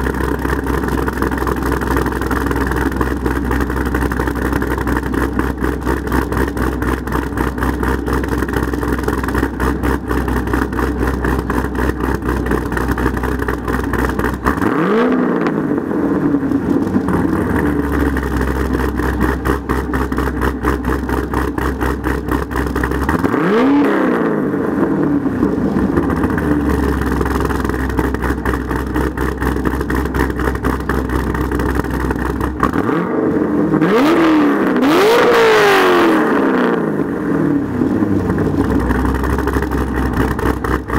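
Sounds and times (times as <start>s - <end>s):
car engine idling: 0.0s - 40.9s
car engine revving: 0.0s - 40.9s.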